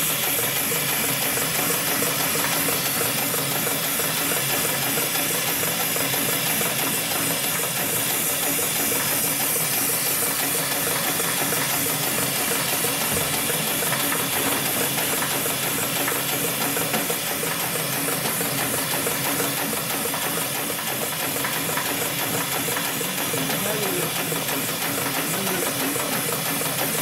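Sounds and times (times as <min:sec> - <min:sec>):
sewing machine running: 0:00.0 - 0:27.0.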